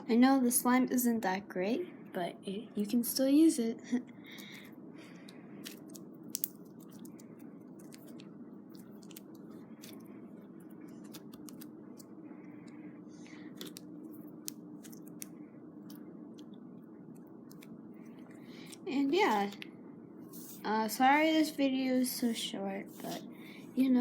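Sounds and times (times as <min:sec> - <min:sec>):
faint background hum: 0:00.0 - 0:24.0.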